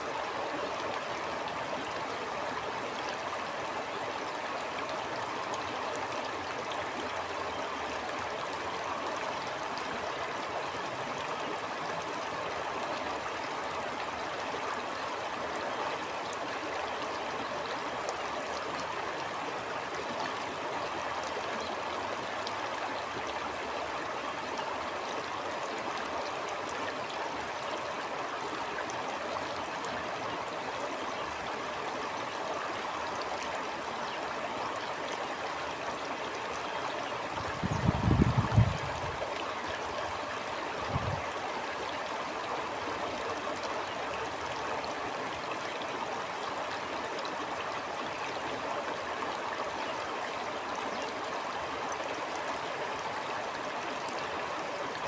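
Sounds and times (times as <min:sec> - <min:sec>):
stream flowing over stones: 0:00.0 - 0:55.0.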